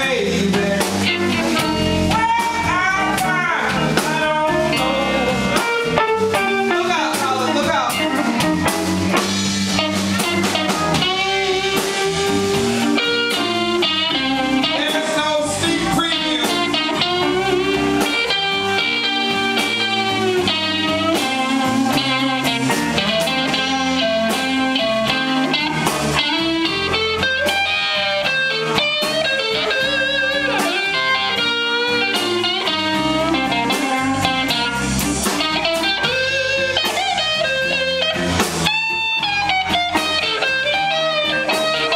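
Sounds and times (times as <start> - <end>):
electric guitar solo: 0.0 - 41.9
live blues band playing: 0.0 - 41.9.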